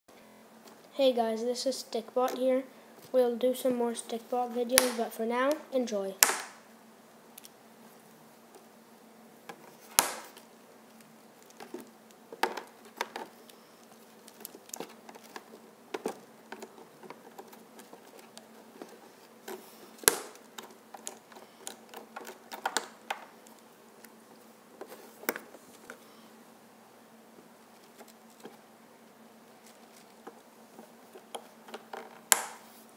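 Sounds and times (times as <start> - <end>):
faint steady hum: 0.1 - 32.9.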